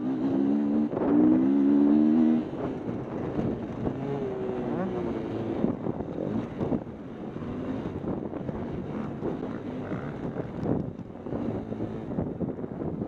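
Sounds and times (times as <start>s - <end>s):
motocross bike engine: 0.0s - 13.0s
wind buffeting microphone: 0.6s - 13.0s.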